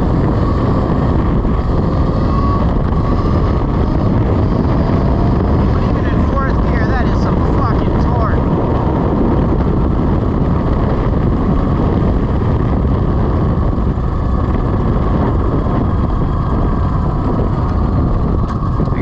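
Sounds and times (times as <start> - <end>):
road noise: 0.0 - 19.0
wind rumble on microphone: 0.0 - 19.0.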